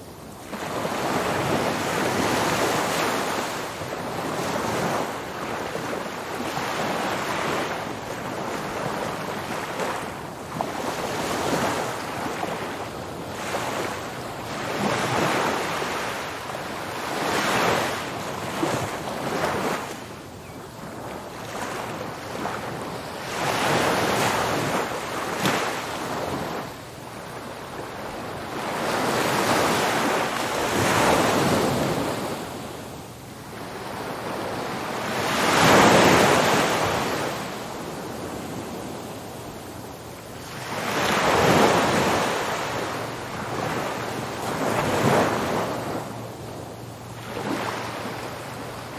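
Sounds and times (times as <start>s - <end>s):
ocean waves breaking on a beach: 0.0s - 48.9s.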